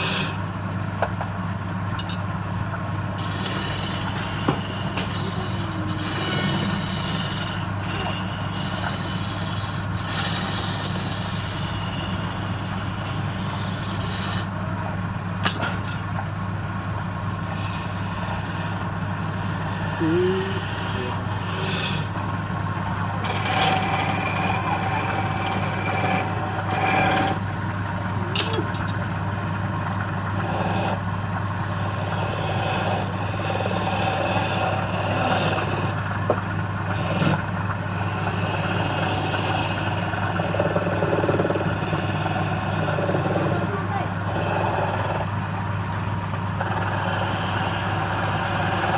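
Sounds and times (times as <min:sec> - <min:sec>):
tool scraping spinning wood: 0:00.0 - 0:00.5, 0:03.1 - 0:14.6, 0:17.1 - 0:48.9
lathe motor hum: 0:00.0 - 0:00.8, 0:02.8 - 0:15.6, 0:16.4 - 0:48.9.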